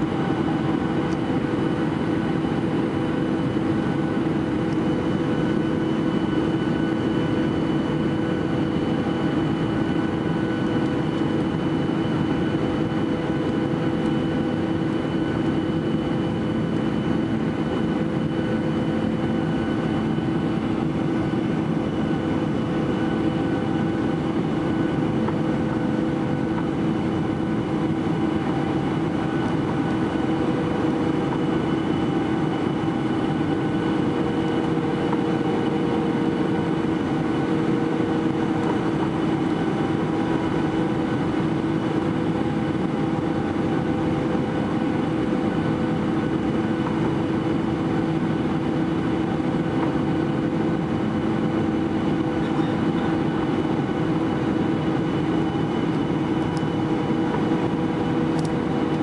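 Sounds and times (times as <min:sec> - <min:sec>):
jet engines humming in cabin: 0:00.0 - 0:59.0.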